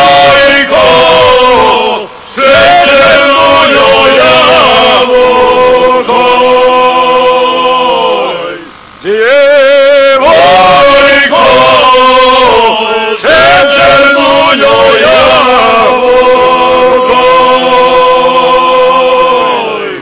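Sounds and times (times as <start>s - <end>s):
men's group singing a held chord: 0.0s - 20.0s.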